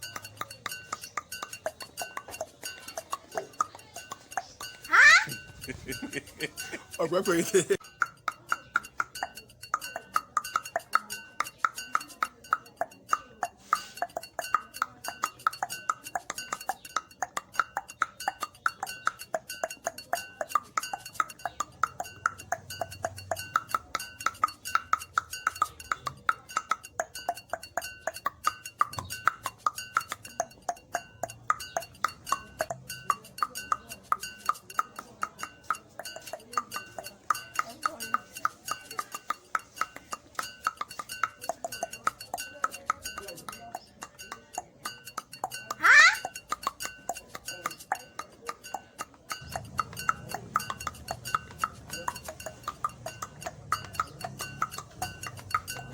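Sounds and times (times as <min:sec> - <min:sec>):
rapid tongue clicks: 0:00.0 - 0:55.9.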